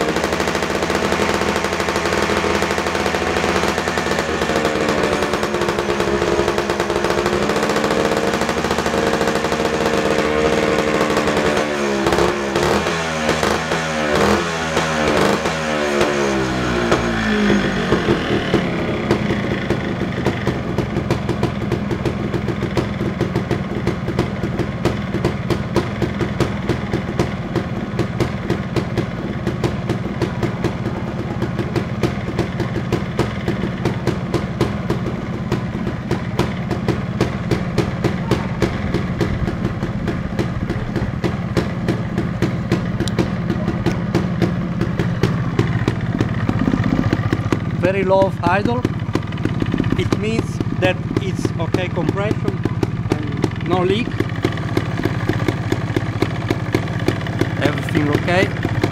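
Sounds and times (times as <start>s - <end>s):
two-stroke engine idling: 0.0s - 58.9s.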